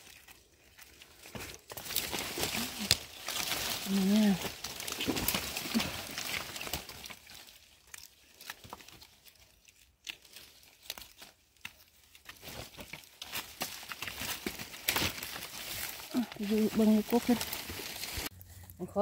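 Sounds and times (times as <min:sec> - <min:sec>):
dry material rustling and crackling: 0:00.0 - 0:19.0.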